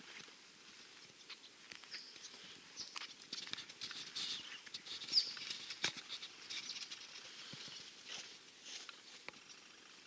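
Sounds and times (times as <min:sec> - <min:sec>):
birds chirping: 0:00.7 - 0:10.0.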